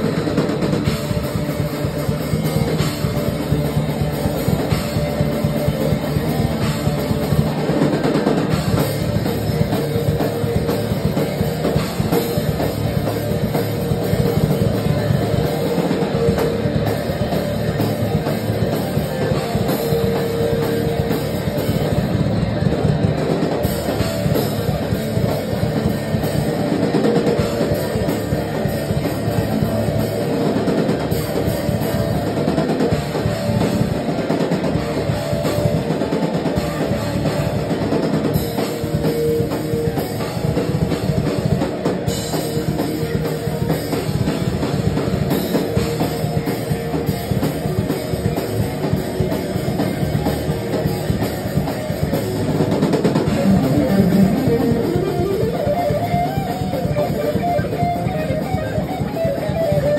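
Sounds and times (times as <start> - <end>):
distorted electric guitar: 0.0 - 59.9
drum kit pounding: 0.0 - 59.9
electric bass: 0.0 - 59.9
rock band playing live: 0.0 - 59.9.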